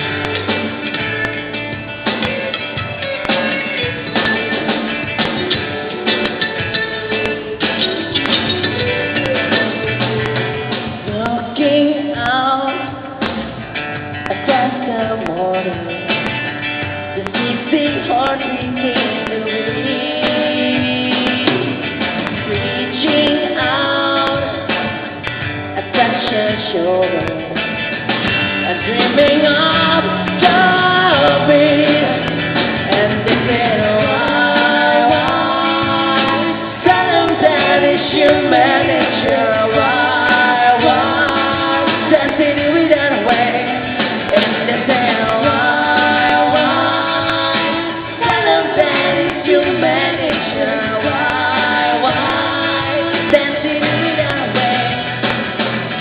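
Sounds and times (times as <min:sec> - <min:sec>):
rock band playing: 0:00.0 - 0:56.0
person singing: 0:06.0 - 0:13.4, 0:14.2 - 0:16.3, 0:17.2 - 0:25.0, 0:25.8 - 0:27.8, 0:28.6 - 0:55.4.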